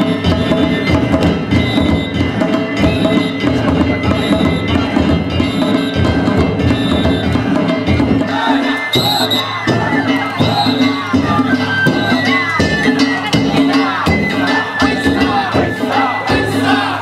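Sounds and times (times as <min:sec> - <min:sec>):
taiko drums: 0:00.0 - 0:17.0.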